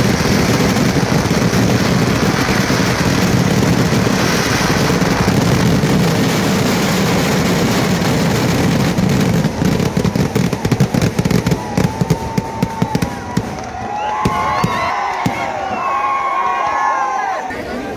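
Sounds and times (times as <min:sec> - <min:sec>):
firecracker explosions: 0:00.0 - 0:16.3.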